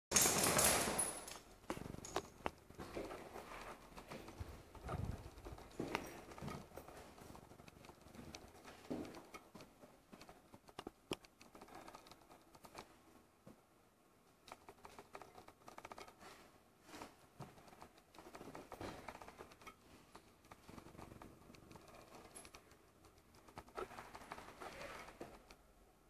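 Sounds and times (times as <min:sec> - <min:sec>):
dog claws clicking on hard floor: 0:00.1 - 0:12.9, 0:17.0 - 0:25.6.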